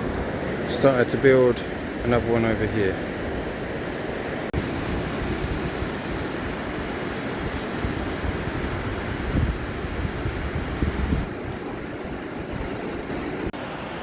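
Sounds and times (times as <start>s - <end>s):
wind buffeting microphone: 0.0s - 13.6s
ocean surf: 0.0s - 14.0s.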